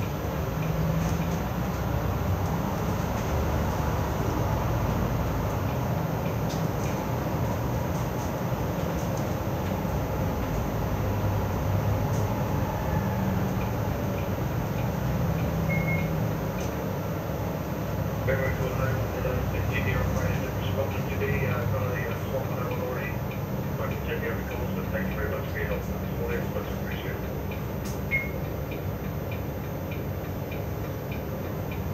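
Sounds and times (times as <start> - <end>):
bus engine drone: 0.0 - 31.9
road and tyre noise: 0.0 - 31.9.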